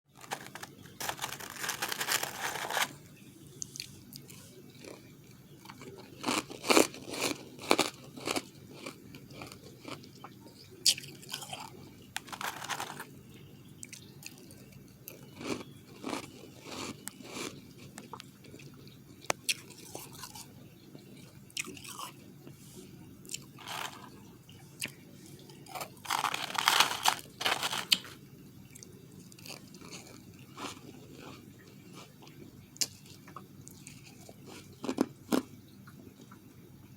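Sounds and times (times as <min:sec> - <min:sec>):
chewing crunchy ice: 0:00.1 - 0:03.0, 0:03.6 - 0:22.2, 0:23.2 - 0:35.5.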